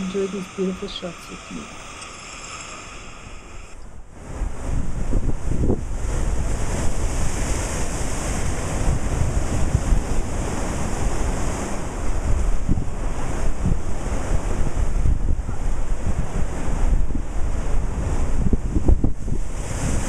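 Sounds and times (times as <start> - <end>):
ocean surf breaking on rocks: 0.0 - 20.0
wind buffeting microphone: 2.8 - 20.0.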